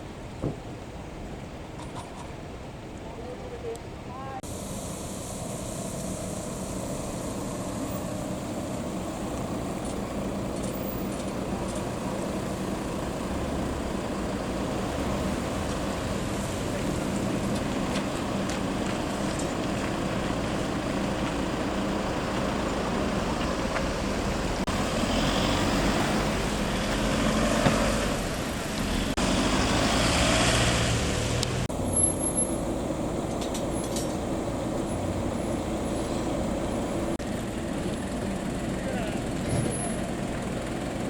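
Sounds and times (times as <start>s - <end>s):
fire trucks driving past: 4.4s - 41.0s.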